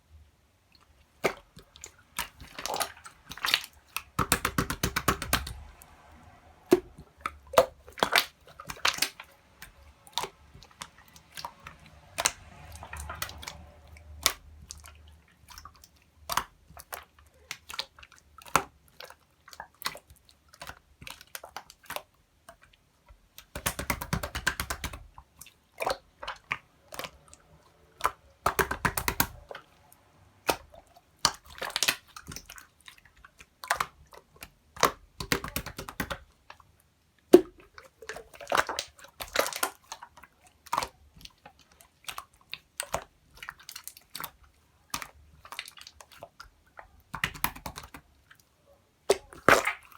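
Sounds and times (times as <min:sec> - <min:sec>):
slime squishing with wet clicks: 0:00.1 - 0:49.9.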